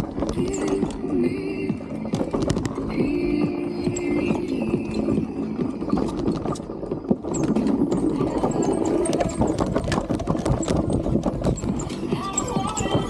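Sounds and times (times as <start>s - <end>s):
wheel clicks and knocks on rocks: 0.0s - 13.0s
wind and tyre rumble: 0.0s - 13.0s.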